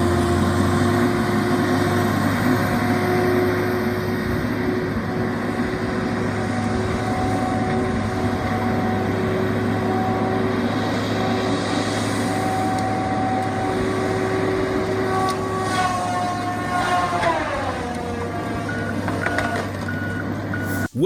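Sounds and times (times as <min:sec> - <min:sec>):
heavy machine engine droning: 0:00.0 - 0:21.0.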